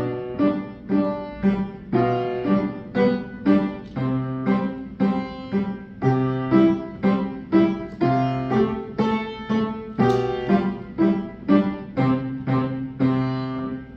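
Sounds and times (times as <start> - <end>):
piano playing simple piece: 0.0 - 13.9.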